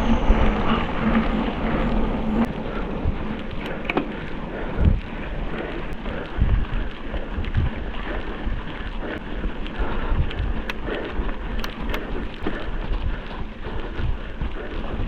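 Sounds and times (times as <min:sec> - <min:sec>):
bike rolling on dirt trail: 0:00.0 - 0:15.0
wind buffeting microphone: 0:00.0 - 0:15.0
sharp rattles and clicks: 0:00.1 - 0:15.0.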